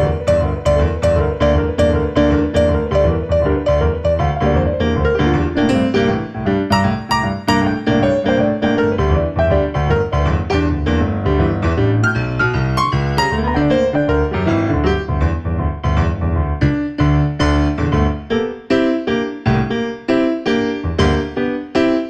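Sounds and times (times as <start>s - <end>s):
piano piece with repeated notes: 0.0s - 22.0s.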